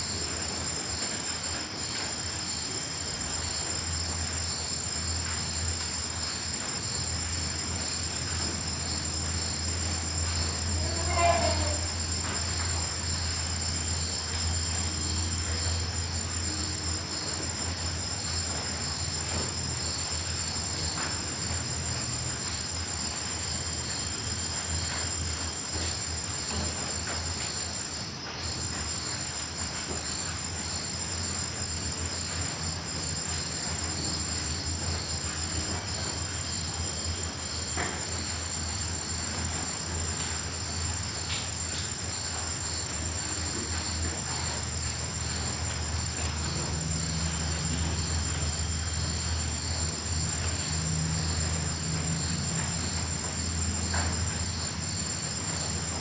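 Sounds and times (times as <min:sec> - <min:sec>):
high continuous cricket trill: 0:00.0 - 0:56.0
lower pulsing cricket trill: 0:00.0 - 0:56.0.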